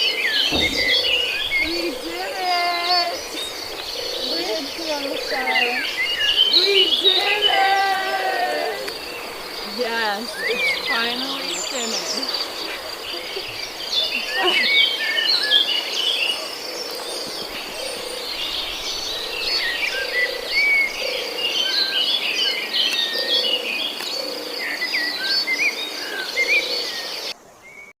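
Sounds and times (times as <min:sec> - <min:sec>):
birds chirping and whistling: 0:00.0 - 0:27.3.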